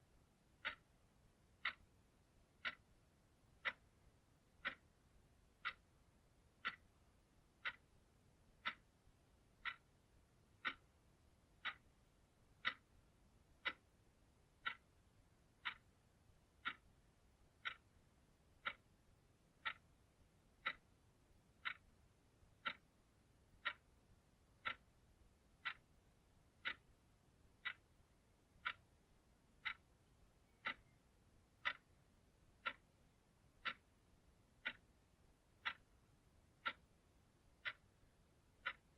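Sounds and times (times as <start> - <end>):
clock ticking: 0.1 - 38.9.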